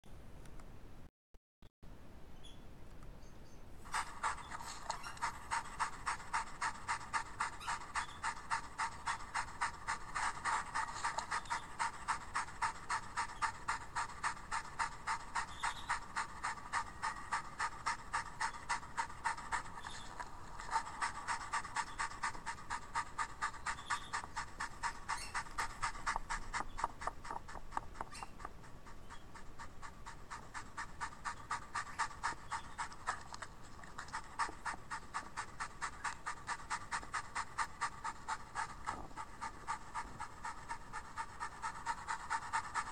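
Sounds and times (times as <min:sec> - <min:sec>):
dog panting through small speakers: 0:03.8 - 0:42.9.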